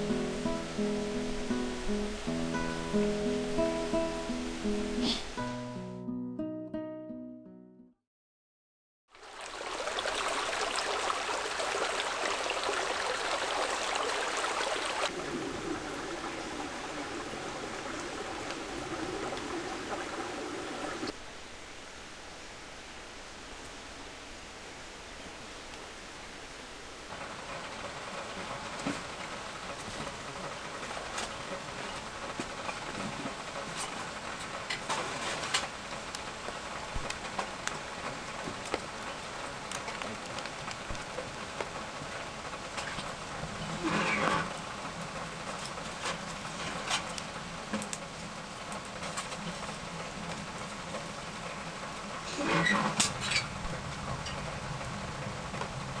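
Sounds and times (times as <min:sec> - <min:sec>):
rain hissing: 0:00.0 - 0:05.7, 0:09.1 - 0:56.0.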